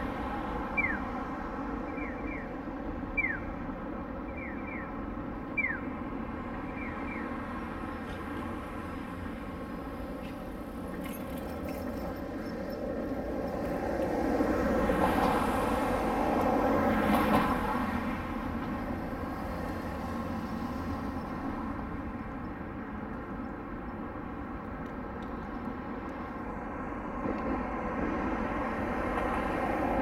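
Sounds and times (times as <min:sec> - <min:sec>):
hum of road vehicles and trams: 0:00.0 - 0:30.0.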